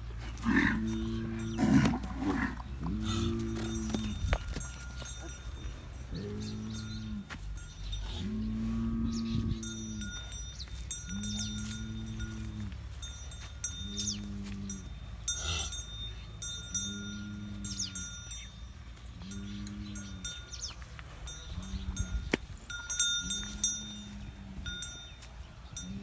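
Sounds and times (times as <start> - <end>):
small metal bells jingling: 0.5 - 26.0.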